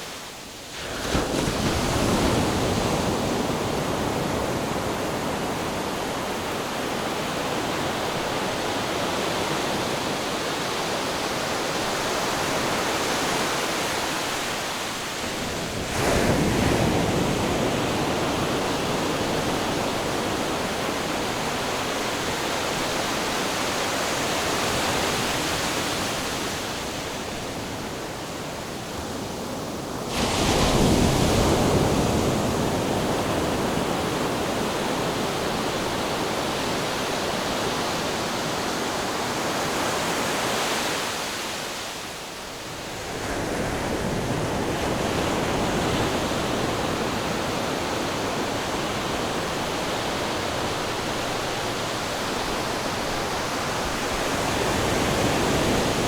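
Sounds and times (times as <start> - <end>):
ocean surf washing: 0.0 - 56.0
surf surges: 0.0 - 56.0.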